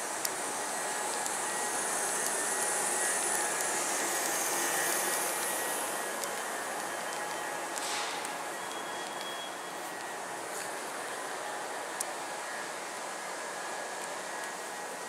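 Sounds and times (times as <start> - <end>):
electric train running: 0.0 - 15.0
faint high whine: 0.0 - 15.0.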